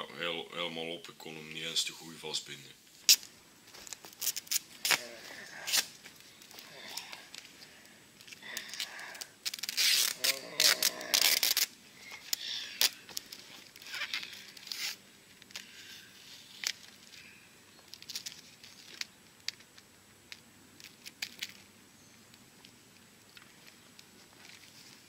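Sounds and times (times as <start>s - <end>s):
tape rustling and crinkling: 2.8s - 25.0s.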